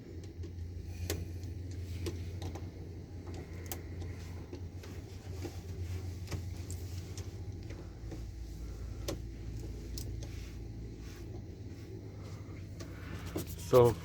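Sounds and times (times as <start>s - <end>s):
aircraft systems low hum: 0.0s - 14.0s.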